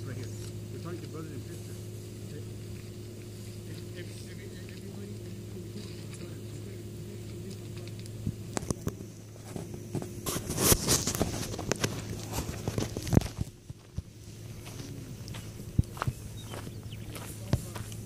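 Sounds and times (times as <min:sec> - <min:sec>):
steady low hum: 0:00.0 - 0:18.0
footsteps on gravel road: 0:00.3 - 0:18.0.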